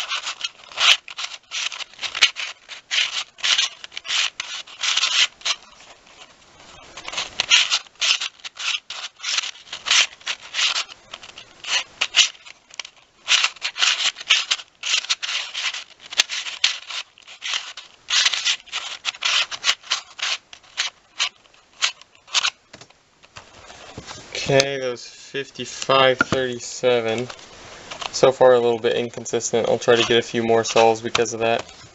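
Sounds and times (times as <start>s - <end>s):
puzzle cube clicking and scraping: 0.0s - 24.8s, 25.4s - 31.9s.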